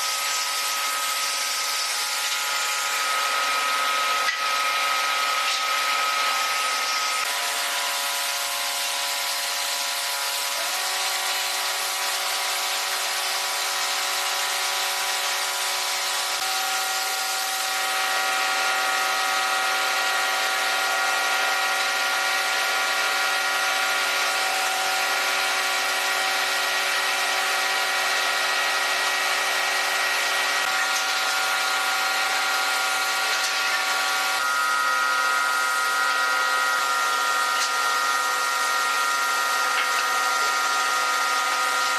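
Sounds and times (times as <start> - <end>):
electric power tool whining: 0.0 - 41.9.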